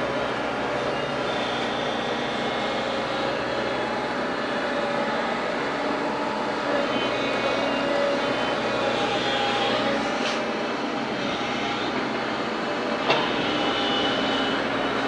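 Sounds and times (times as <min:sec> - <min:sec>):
muffled heavy machinery drone: 0:00.0 - 0:15.0.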